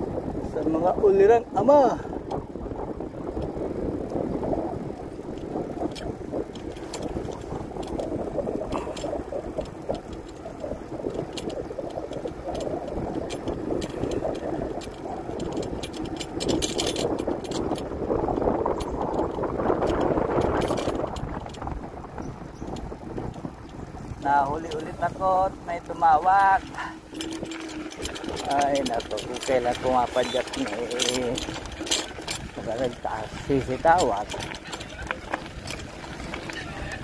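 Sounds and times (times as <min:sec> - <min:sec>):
bicycle tyre and wind noise: 0:00.0 - 0:37.0
bike rattling clicks: 0:02.1 - 0:37.0.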